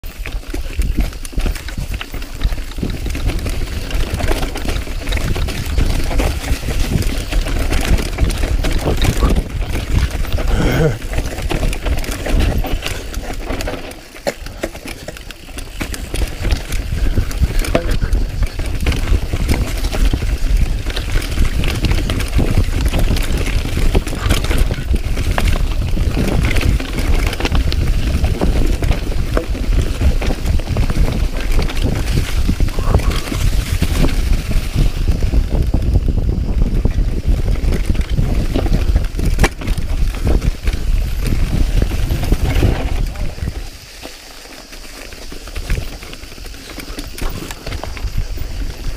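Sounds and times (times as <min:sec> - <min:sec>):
bike rattling: 0:00.0 - 0:48.9
tyres crunching over stones: 0:00.0 - 0:48.9
wind rumble on microphone: 0:00.0 - 0:48.9.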